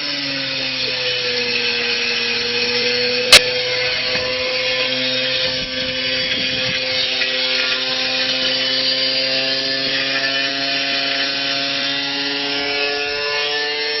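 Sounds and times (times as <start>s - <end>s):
washing machine motor whine: 0.0s - 14.0s.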